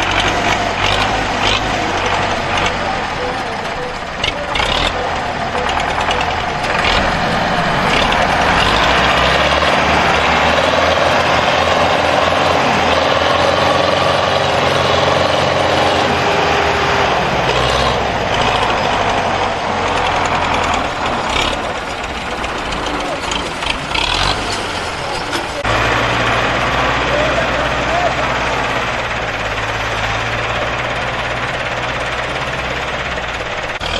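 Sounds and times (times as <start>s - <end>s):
tractor diesel engines under load: 0.0s - 33.9s.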